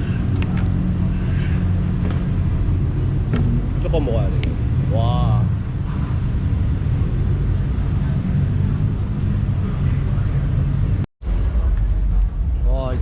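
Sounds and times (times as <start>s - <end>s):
low rumble of cars: 0.0s - 13.0s.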